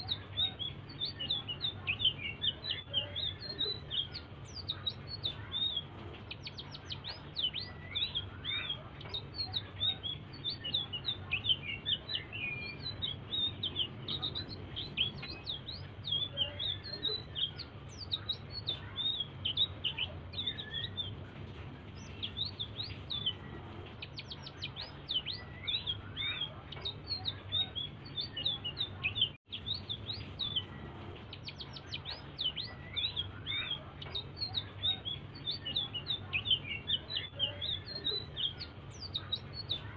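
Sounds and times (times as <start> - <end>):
low steady hum: 0.0 - 39.9
songbird singing: 0.0 - 39.9.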